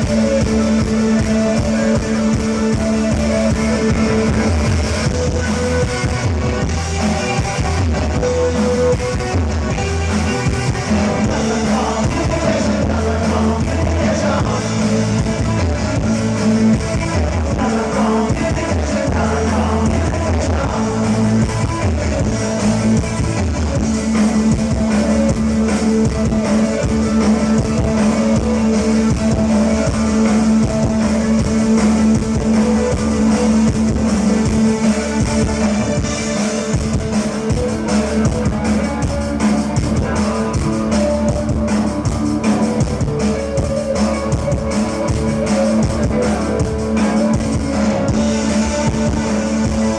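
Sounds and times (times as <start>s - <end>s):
lead singer singing: 0.0s - 23.4s, 24.0s - 49.9s
live rock band playing: 0.0s - 49.9s.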